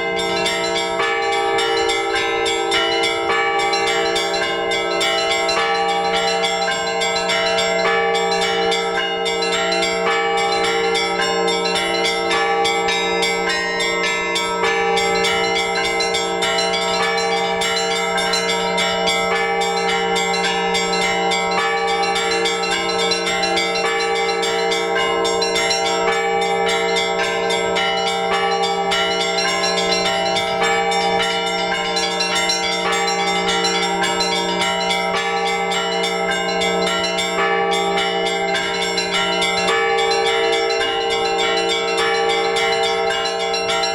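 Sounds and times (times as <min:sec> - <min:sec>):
large bells ringing: 0:00.0 - 0:43.9.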